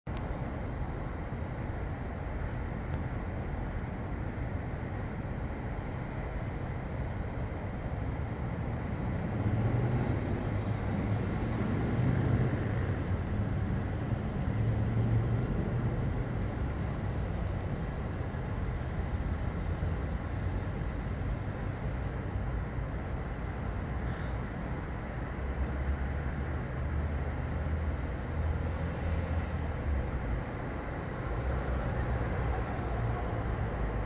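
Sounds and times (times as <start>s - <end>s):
distant city traffic rumble: 0.1s - 34.0s.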